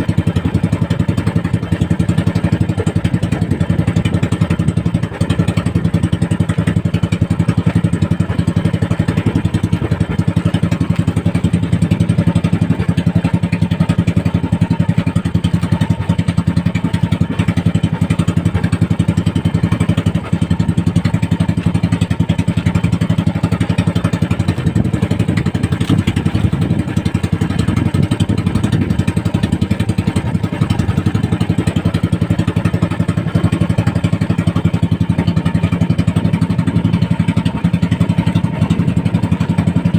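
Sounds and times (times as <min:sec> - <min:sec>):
small boat engine running: 0:00.0 - 0:39.9.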